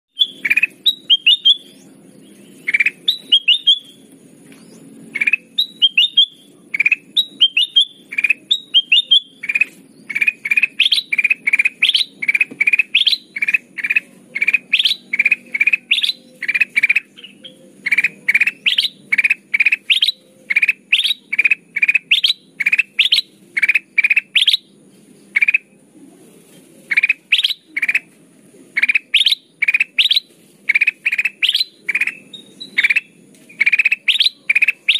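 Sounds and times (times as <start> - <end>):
bulbul chirping: 0.1 - 25.8, 26.9 - 28.2, 28.8 - 34.9
faint low hum: 0.2 - 34.9.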